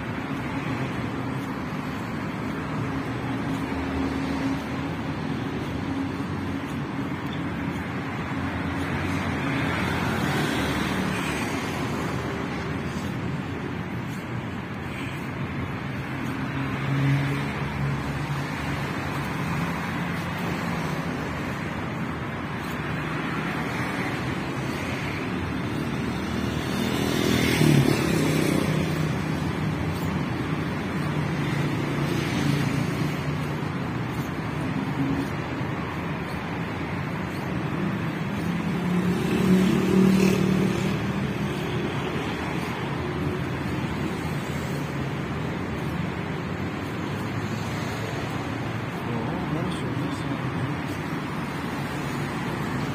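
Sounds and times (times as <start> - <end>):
hum of car engines and tyres: 0.0 - 52.9
vehicles passing close: 0.0 - 52.9.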